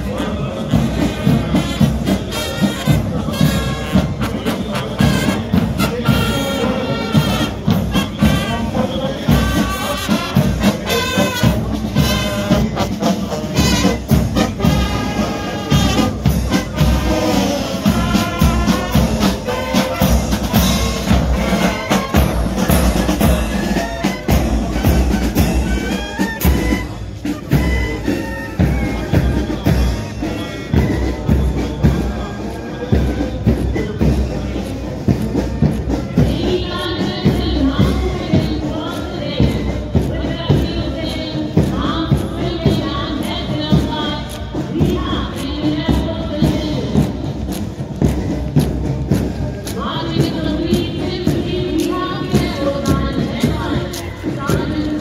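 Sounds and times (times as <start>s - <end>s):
marching brass band playing: 0.0s - 55.0s.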